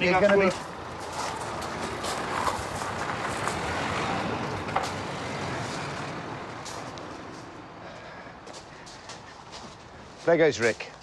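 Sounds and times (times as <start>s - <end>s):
van driving off: 0.2s - 9.7s.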